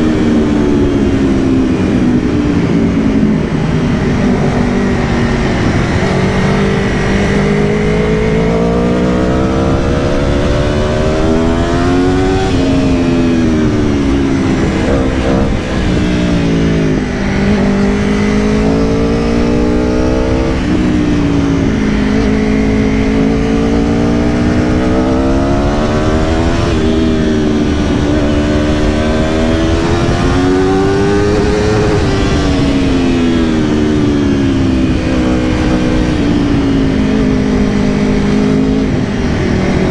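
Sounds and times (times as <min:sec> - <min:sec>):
motorcycle engine revving through gears: 0:00.0 - 0:39.9
steady rushing noise: 0:00.0 - 0:39.9.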